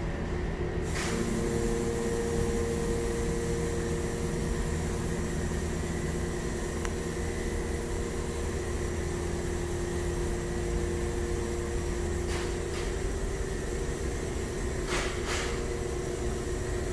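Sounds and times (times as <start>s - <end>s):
mechanical hum with tones: 0.0s - 16.9s.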